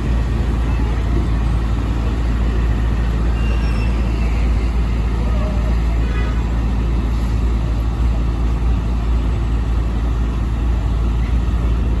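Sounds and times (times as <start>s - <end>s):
bus engine idling: 0.0s - 12.0s
street noise: 0.0s - 12.0s.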